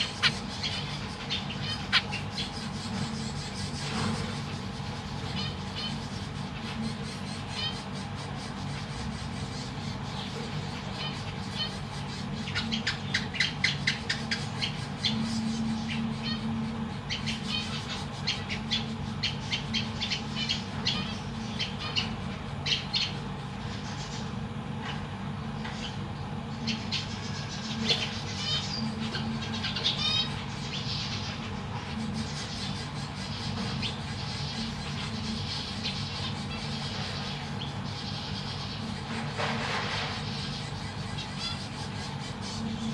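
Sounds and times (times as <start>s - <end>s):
finches chirping: 0.0s - 42.9s.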